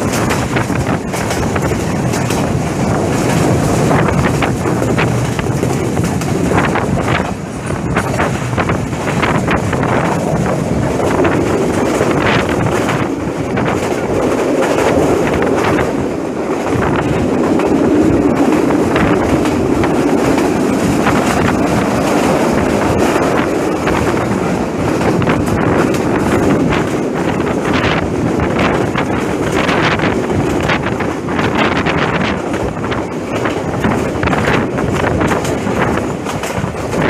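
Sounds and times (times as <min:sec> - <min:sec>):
train wheels rumbling on rails: 0:00.0 - 0:37.0
wind rushing over microphone: 0:00.0 - 0:37.0.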